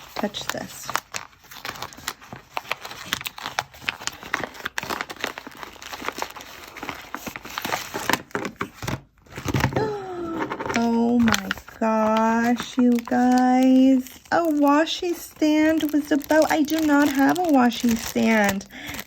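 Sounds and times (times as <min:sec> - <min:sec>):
packaging torn and crinkled: 0:00.0 - 0:09.8, 0:10.6 - 0:19.0.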